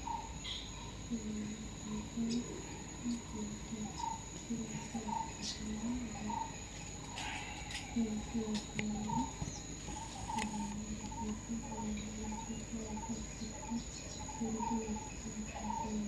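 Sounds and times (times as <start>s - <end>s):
high-pitched insect drone: 0.0s - 16.0s
low voices: 1.0s - 16.0s.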